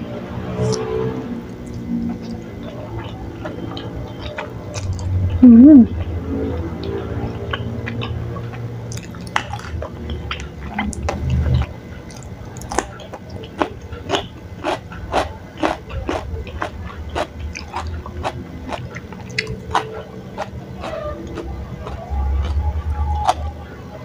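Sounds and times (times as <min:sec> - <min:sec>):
wet chewing and mouth smacks: 0:01.6 - 0:05.2, 0:06.8 - 0:23.4.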